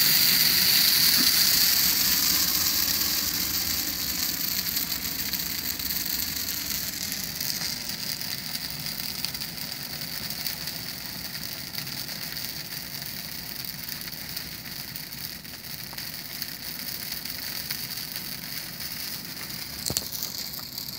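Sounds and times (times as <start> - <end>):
fire crackling and hissing: 0.0 - 20.9.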